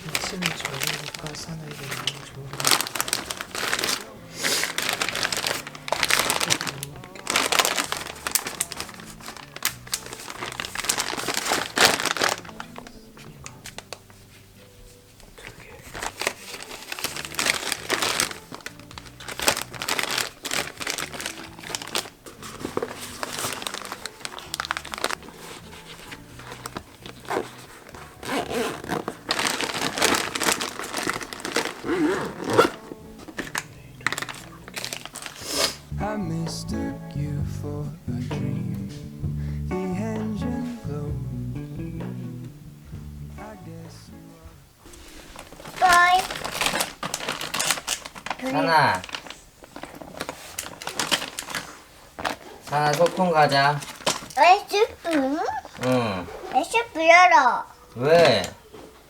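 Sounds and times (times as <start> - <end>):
crinkling and rustling: 0.0 - 36.6, 44.8 - 59.0.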